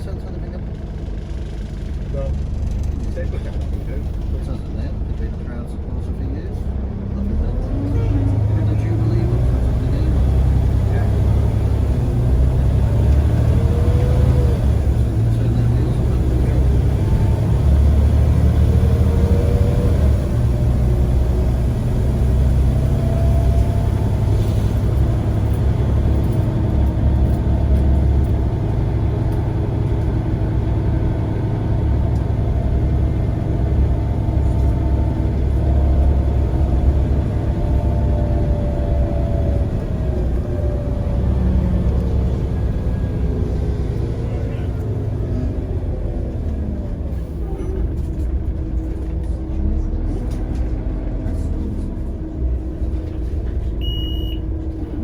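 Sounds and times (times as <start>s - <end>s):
bus engine rumble and whine: 0.0s - 55.0s.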